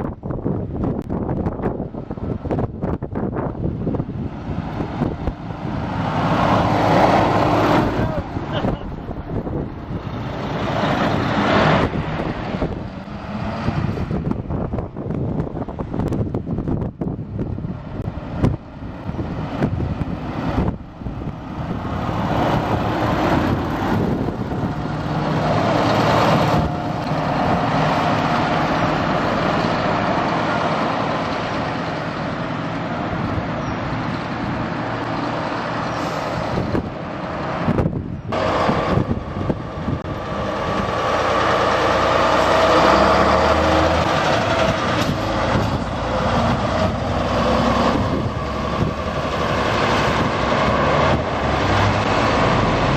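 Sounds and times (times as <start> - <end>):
trucks driving by: 0.0 - 52.9.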